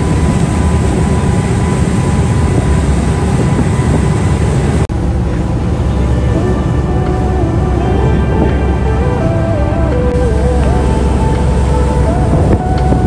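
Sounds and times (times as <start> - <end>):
boat engines running: 0.0 - 13.0
wind noise: 0.0 - 13.0.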